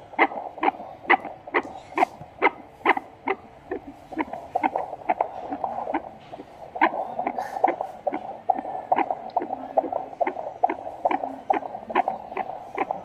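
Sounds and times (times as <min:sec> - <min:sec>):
fast fetal heartbeat: 0:00.0 - 0:13.0.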